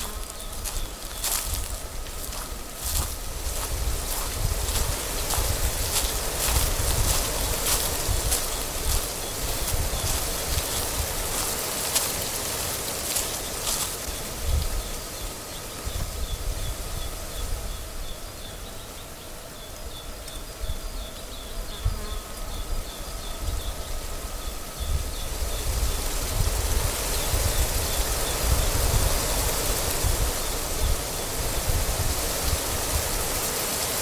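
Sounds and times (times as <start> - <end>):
wind gusting across microphone: 0.0 - 18.6, 19.8 - 34.0.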